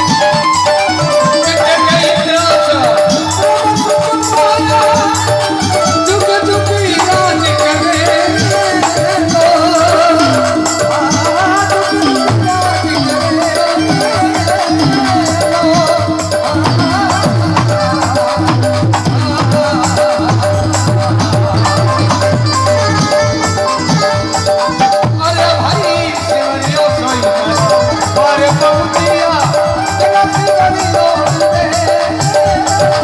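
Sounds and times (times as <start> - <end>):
quick steady percussion: 0.0 - 33.0
wavering instrumental melody: 0.0 - 33.0.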